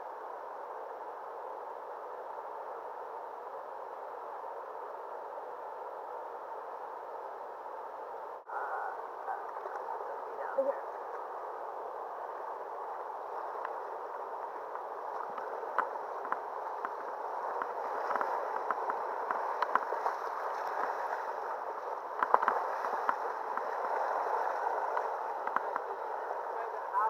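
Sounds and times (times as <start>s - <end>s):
river water rushing and gurgling: 0.0s - 27.0s.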